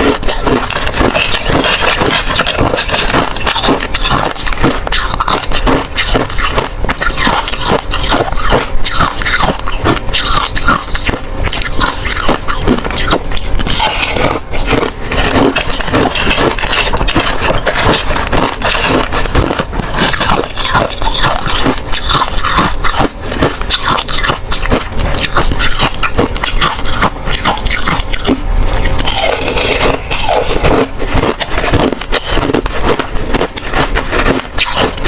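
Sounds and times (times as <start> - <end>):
ice crunching between teeth: 0.0 - 35.0.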